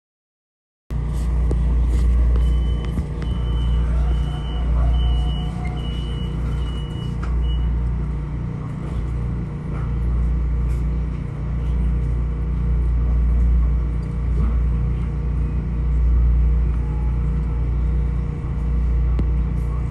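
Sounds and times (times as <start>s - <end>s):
train interior rumble: 0.9s - 19.9s.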